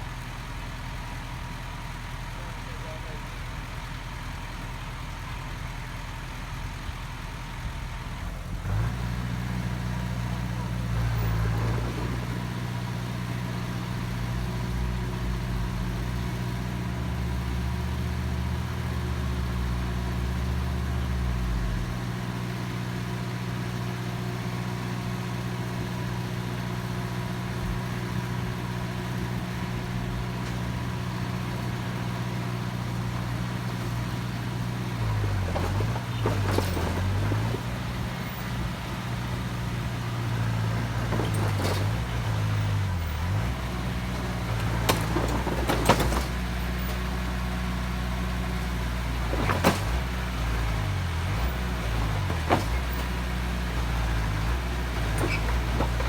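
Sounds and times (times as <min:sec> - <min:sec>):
construction machine diesel engine: 0:00.0 - 0:56.0.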